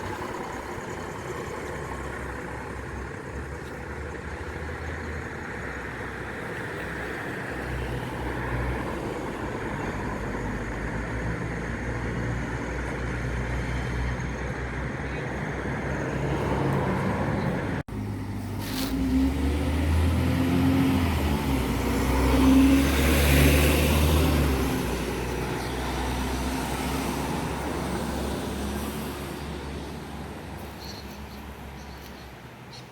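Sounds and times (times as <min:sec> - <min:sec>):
bus engine passing by: 0:00.0 - 0:32.9
road traffic: 0:00.0 - 0:32.9.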